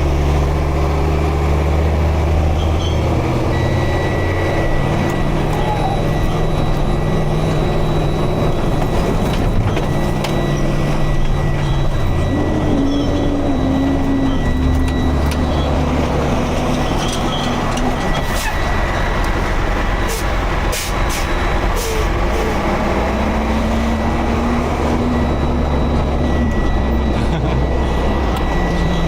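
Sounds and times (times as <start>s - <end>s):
diesel engine running: 0.0s - 29.0s
thin steady whine: 3.3s - 29.0s.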